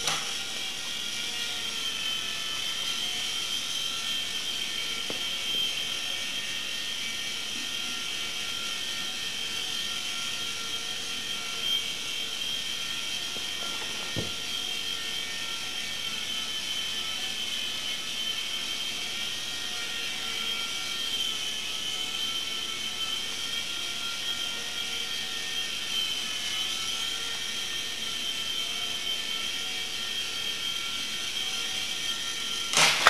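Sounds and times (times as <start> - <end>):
toy helicopter motor whining: 0.0 - 33.0.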